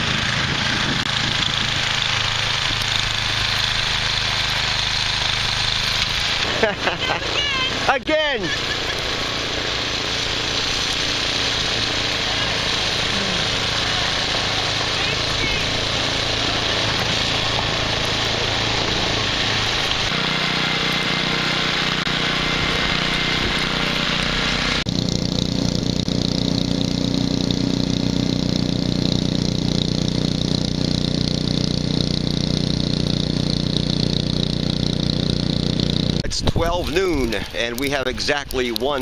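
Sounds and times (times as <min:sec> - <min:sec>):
snowblower engine running: 0:00.0 - 0:39.0.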